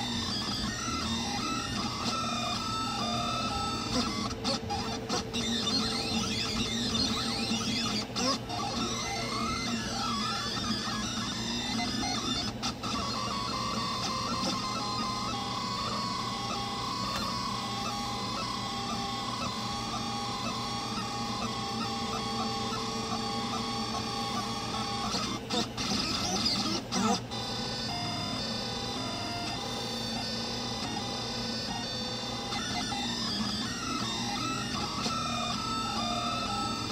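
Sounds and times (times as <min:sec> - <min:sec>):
stepper motors whining: 0:00.0 - 0:36.9.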